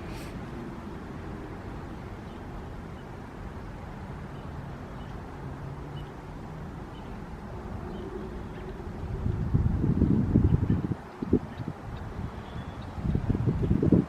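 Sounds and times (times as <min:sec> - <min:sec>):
distant traffic: 0:00.0 - 0:14.0
wind: 0:00.0 - 0:14.0.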